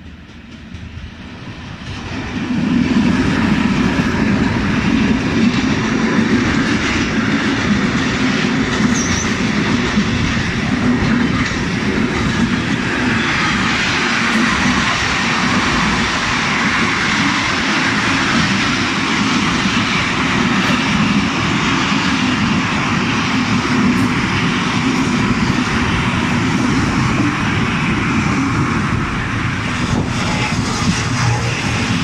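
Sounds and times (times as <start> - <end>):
freight train passing: 0.0 - 32.0.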